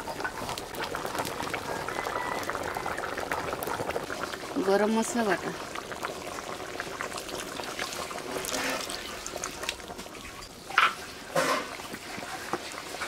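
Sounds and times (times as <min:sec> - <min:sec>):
small crackles: 0:00.0 - 0:04.8, 0:05.6 - 0:13.0
curry bubbling in a wok: 0:00.0 - 0:13.0.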